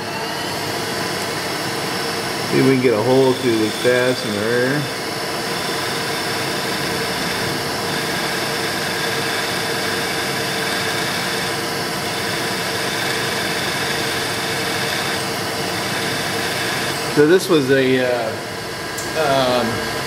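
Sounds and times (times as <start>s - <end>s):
drill bit boring into screw: 0.0s - 17.8s
drill spindle humming: 0.0s - 20.0s.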